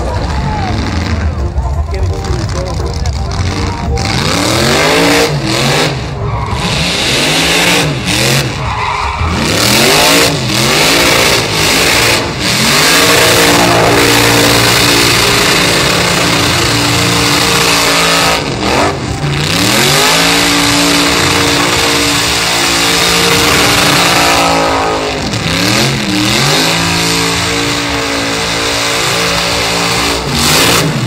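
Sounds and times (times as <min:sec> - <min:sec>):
engine revving hard: 0:03.3 - 0:31.0.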